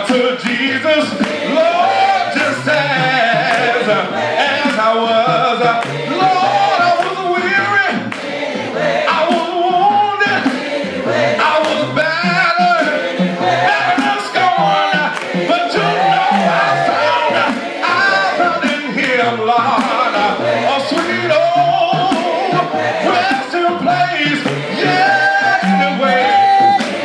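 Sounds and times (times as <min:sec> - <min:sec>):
man singing into a microphone: 0:00.0 - 0:08.0, 0:09.1 - 0:10.5, 0:11.4 - 0:26.8
steady beat of sharp hits: 0:00.0 - 0:27.0
voices singing along: 0:00.0 - 0:27.0.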